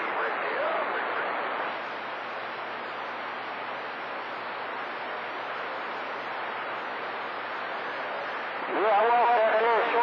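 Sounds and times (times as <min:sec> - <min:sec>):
faint low hum: 0:00.0 - 0:10.0
radio static hiss: 0:00.0 - 0:10.0.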